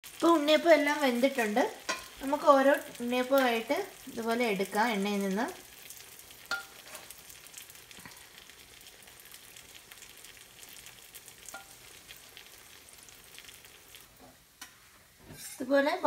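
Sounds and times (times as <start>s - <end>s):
fritters sizzling in oil: 0.0s - 16.0s.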